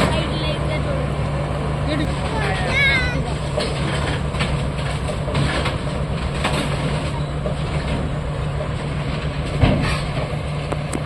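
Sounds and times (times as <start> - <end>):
excavator diesel engine droning: 0.0 - 11.0.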